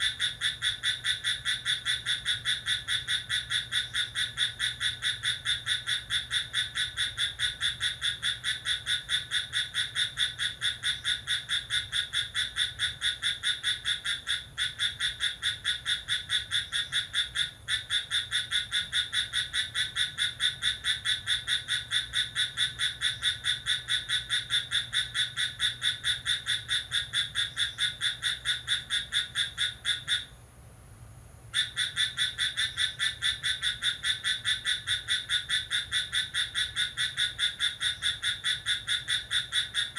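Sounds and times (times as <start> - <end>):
animal chirping: 0.0 - 30.3, 31.6 - 39.9.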